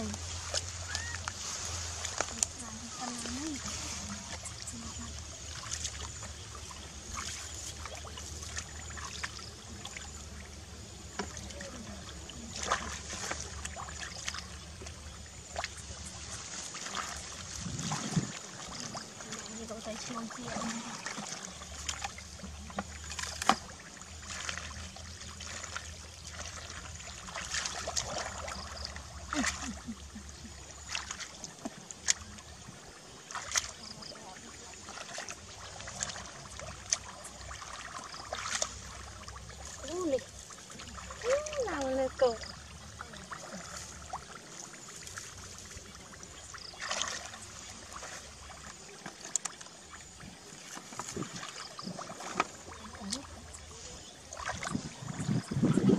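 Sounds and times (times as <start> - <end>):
hands sloshing in muddy water: 0.0 - 55.9
small water splashes and trickles: 0.0 - 55.9.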